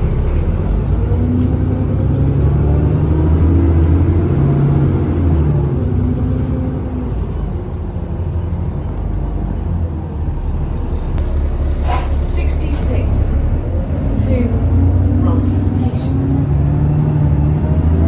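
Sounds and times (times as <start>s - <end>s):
bus engine pulling under power: 0.0s - 18.0s.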